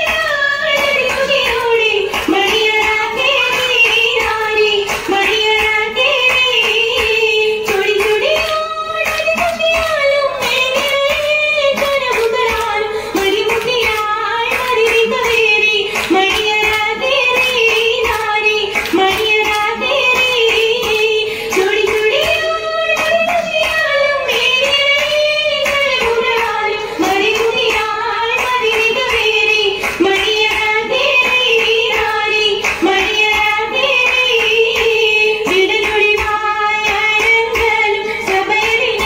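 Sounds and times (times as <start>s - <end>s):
girls singing together: 0.0s - 39.0s
rhythmic hand-clapping: 0.0s - 39.0s.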